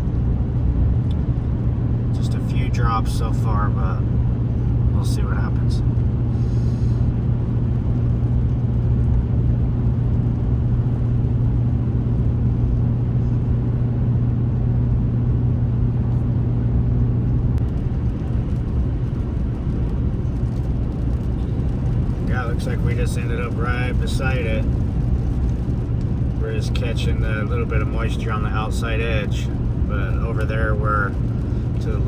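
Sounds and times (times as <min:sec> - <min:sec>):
road and engine drone in car: 0:00.0 - 0:32.0.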